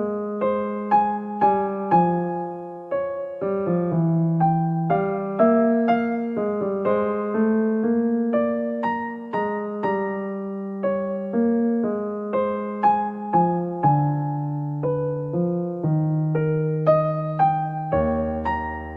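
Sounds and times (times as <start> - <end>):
slow keyboard music: 0.0 - 18.9.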